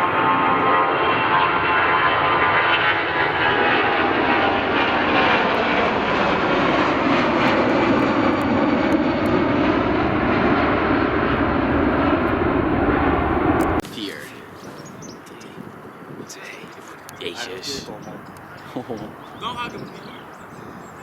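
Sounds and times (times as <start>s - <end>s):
faint engine whine: 0.0s - 21.0s
jet engines at take-off thrust: 0.0s - 21.0s.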